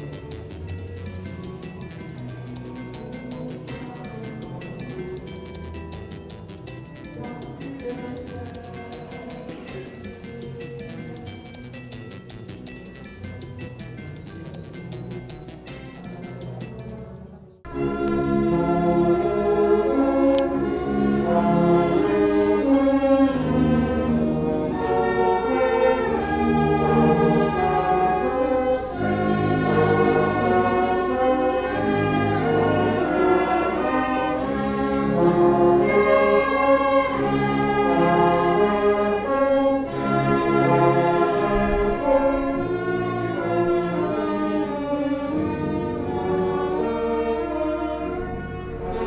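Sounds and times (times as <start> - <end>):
orchestral music sustained chords: 0.0 - 13.9, 17.4 - 49.0.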